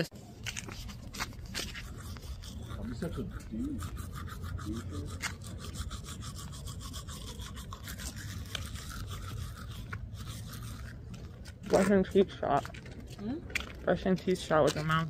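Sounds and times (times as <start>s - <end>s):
toothbrush scrubbing teeth: 0.6s - 12.7s.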